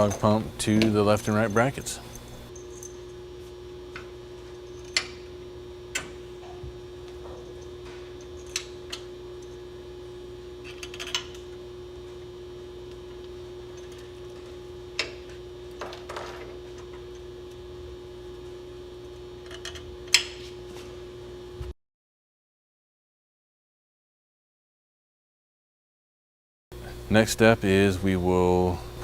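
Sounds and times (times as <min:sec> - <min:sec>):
steady hum: 0:00.0 - 0:21.7, 0:26.7 - 0:29.0.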